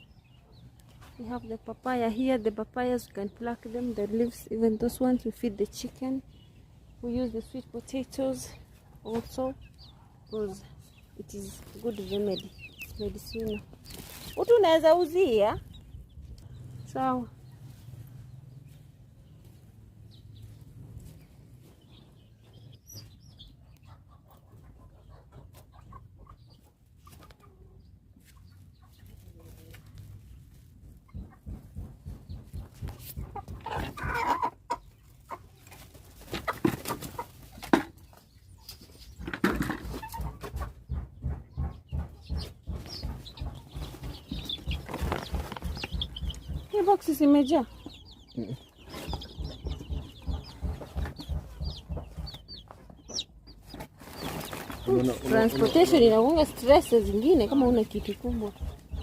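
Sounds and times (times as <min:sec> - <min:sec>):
chickens clucking: 0:00.0 - 0:59.0
poultry chirping: 0:00.0 - 0:59.0.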